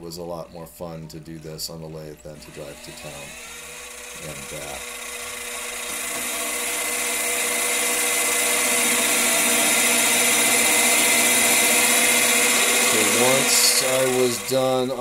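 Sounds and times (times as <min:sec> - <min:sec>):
metal lathe whining: 0:02.1 - 0:15.0.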